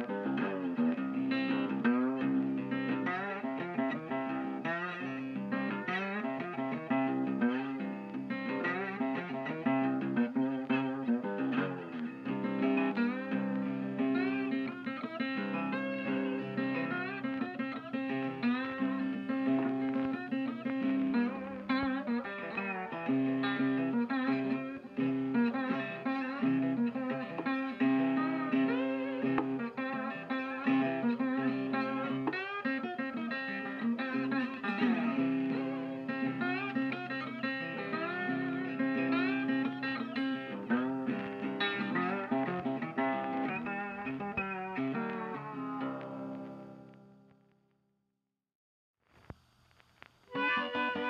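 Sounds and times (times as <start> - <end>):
guitar instrumental music: 0.0 - 47.7, 50.0 - 51.0.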